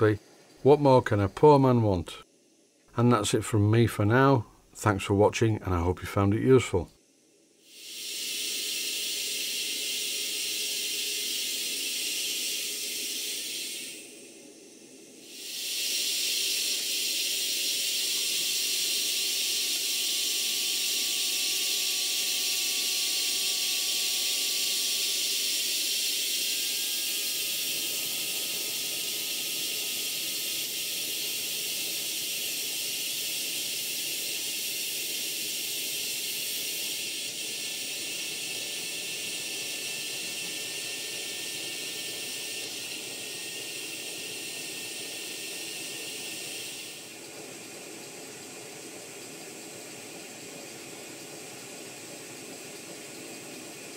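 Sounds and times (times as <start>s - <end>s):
steam hissing from safety valve: 7.5s - 53.9s.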